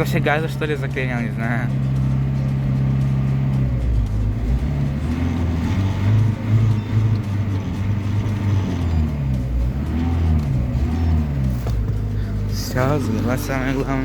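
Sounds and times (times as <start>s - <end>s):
car engine idle hunting: 0.0s - 14.0s.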